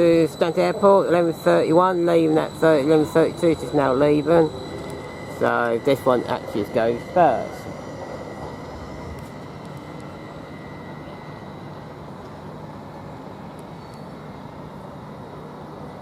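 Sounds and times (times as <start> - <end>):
faint high whine: 0.0 - 16.0
train mechanical drone: 0.0 - 16.0.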